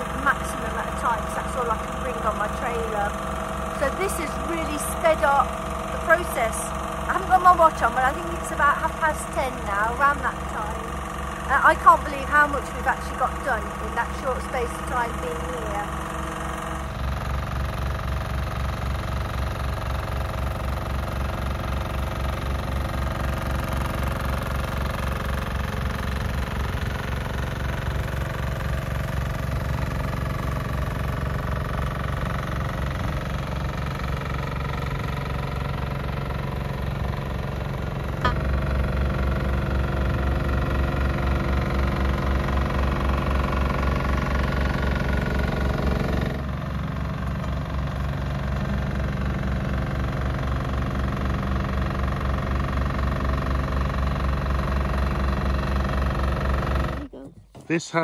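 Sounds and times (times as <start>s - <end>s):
vibratory roller engine pulsing: 0.0s - 58.0s.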